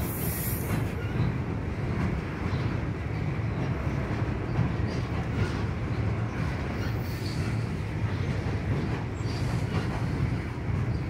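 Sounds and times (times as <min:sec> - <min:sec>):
freight train rumbling over bridge: 0:00.0 - 0:11.0.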